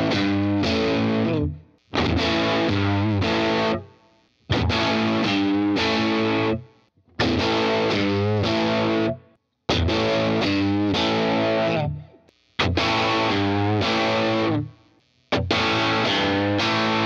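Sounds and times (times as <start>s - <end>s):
overdriven electric guitar riff: 0.0s - 17.0s.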